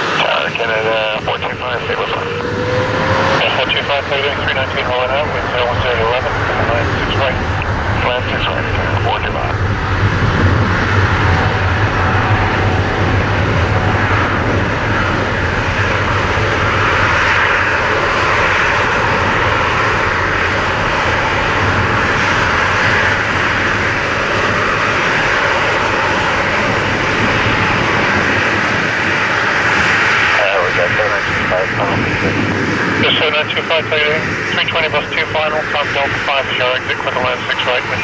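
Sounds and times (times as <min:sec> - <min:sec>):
jet engines at high thrust: 0:00.0 - 0:38.0.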